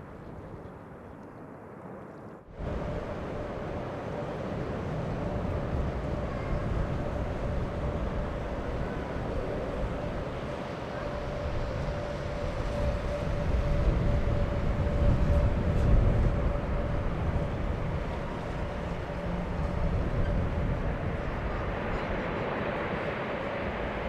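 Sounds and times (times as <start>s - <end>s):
jet engines rumbling and whining: 1.7s - 24.0s.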